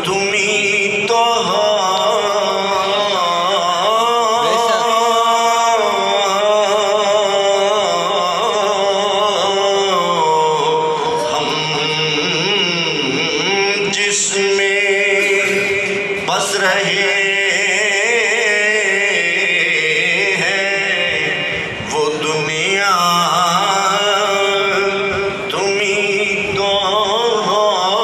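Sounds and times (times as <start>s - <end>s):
man chanting recitation: 0.0s - 28.0s.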